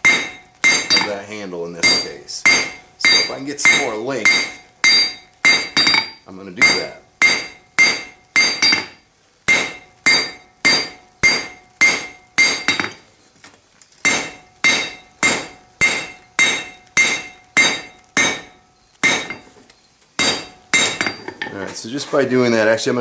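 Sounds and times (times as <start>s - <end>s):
hammer striking metal on anvil: 0.0s - 13.0s, 14.1s - 19.6s, 20.2s - 21.6s.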